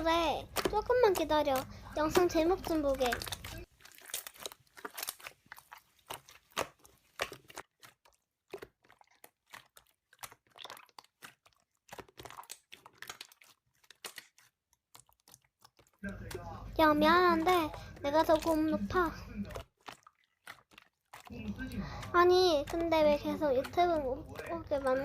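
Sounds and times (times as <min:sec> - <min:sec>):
slime squishing and popping: 0:00.0 - 0:25.0.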